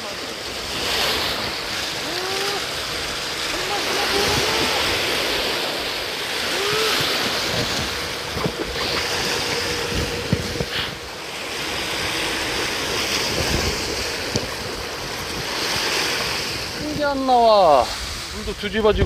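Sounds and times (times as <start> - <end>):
sea waves splashing on rocks: 0.0 - 18.4
wind buffeting microphone: 0.4 - 19.0.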